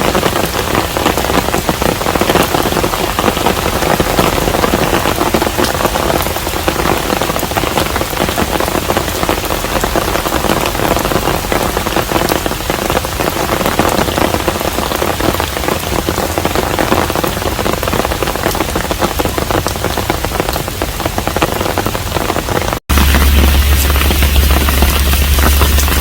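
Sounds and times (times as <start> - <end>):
heavy rain patter: 0.0 - 26.0.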